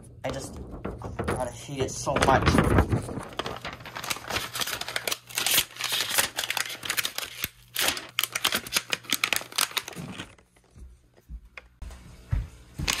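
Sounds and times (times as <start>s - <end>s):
plastic film crinkling: 0.3s - 10.8s.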